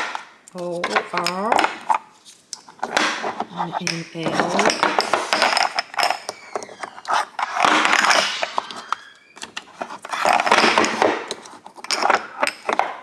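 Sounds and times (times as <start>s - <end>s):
jars clicking and scraping on rack: 0.0s - 2.0s, 2.6s - 13.0s.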